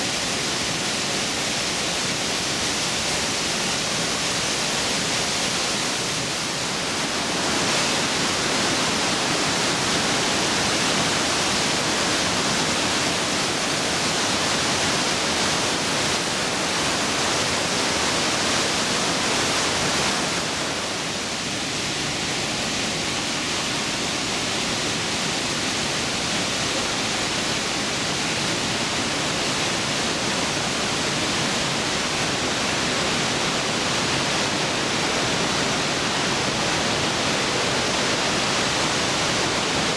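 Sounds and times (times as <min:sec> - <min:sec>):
rushing waterfall: 0:00.0 - 0:39.9.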